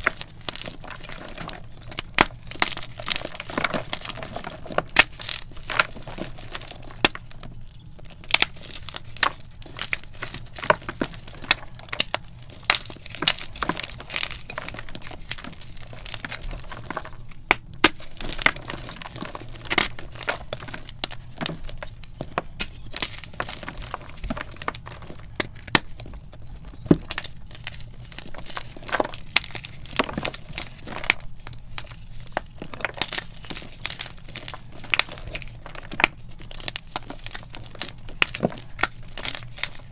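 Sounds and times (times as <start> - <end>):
chalk crunching and cracking: 0.0 - 39.9.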